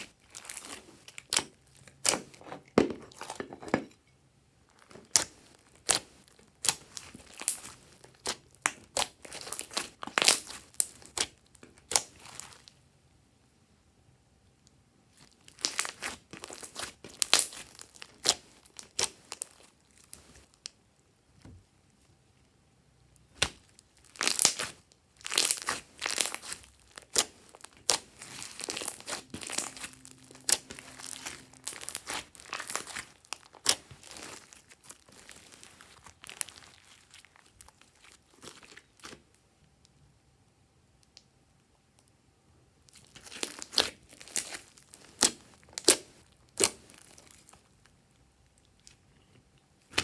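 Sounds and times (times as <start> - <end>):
slime squishing with sticky clicks: 0.0 - 3.4, 4.8 - 12.8, 14.5 - 21.4, 23.2 - 39.9, 42.8 - 50.0.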